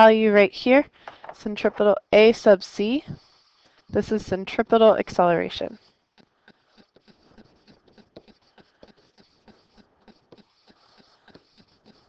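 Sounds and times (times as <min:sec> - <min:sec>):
stylus tapping and scratching: 0:01.0 - 0:12.0.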